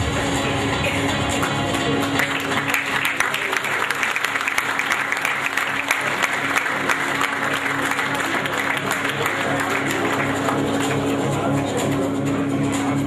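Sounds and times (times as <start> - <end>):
background music: 0.0 - 13.0
audience applauding: 1.4 - 12.0.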